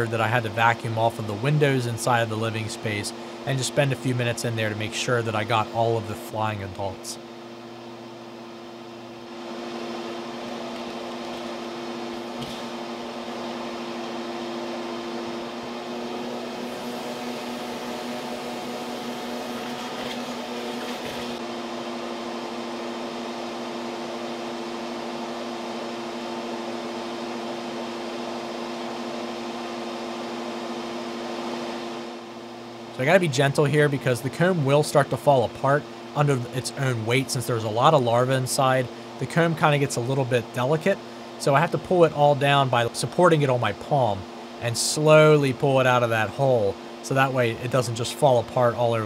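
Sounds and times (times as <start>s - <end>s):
vacuum suction hum: 0.0s - 49.0s.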